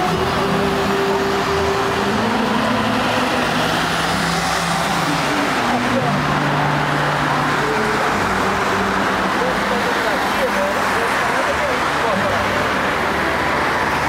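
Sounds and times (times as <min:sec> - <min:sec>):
vehicles driving past: 0:00.0 - 0:14.0.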